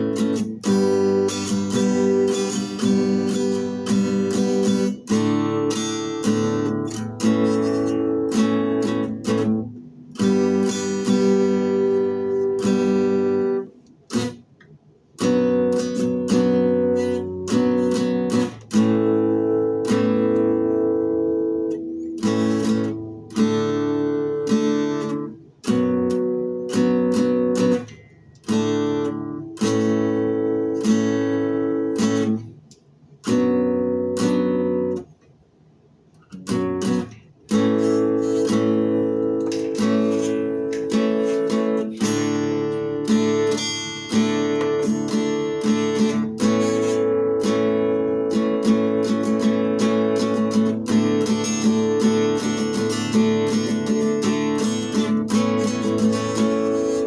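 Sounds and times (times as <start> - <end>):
acoustic guitar strumming: 0.0 - 35.2, 35.8 - 57.0.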